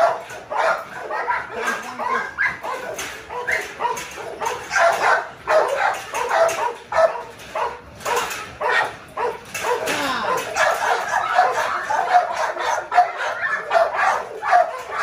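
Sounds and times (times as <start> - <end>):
dogs barking rapidly: 0.0 - 15.0.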